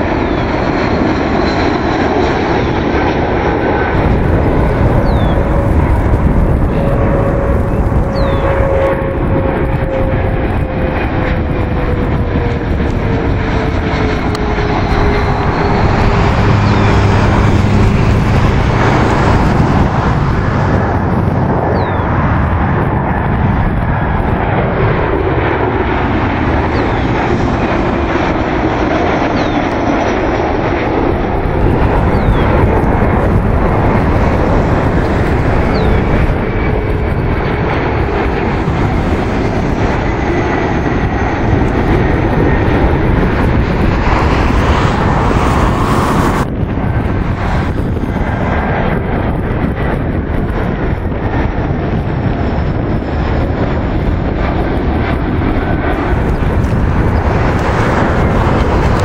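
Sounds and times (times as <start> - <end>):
jet airliners passing overhead: 0.0 - 59.0.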